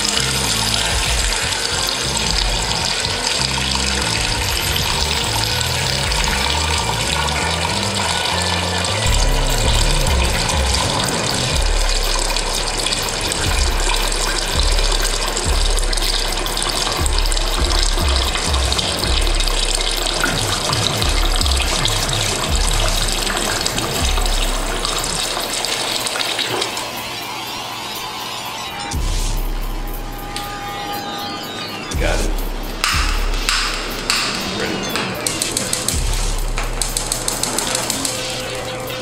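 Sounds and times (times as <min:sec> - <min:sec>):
music with pulsing bass: 0:00.0 - 0:39.0.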